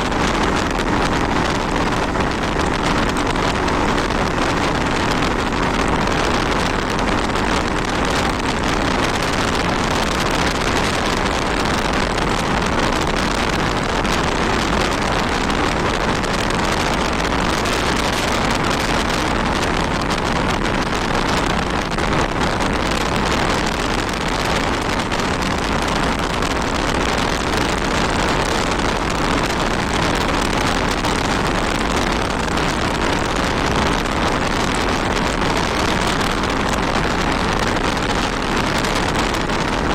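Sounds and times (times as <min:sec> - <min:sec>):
motorcycle engine hum: 0:00.0 - 0:39.9
wind rushing on microphone: 0:00.0 - 0:39.9.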